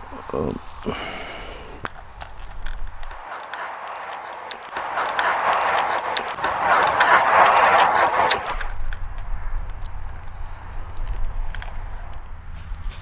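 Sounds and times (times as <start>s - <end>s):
rushing noise: 1.6s - 12.2s
scattered clicks: 1.8s - 12.8s.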